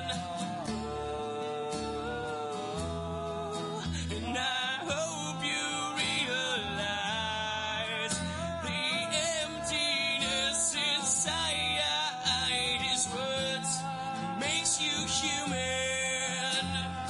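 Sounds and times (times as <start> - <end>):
acoustic bass guitar: 0.0 - 17.0
acoustic guitars strumming: 0.0 - 17.0
person singing: 0.0 - 17.0.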